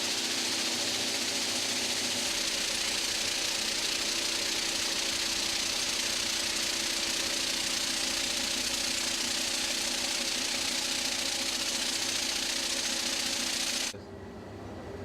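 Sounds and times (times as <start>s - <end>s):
machinery humming and hissing: 0.0s - 15.0s.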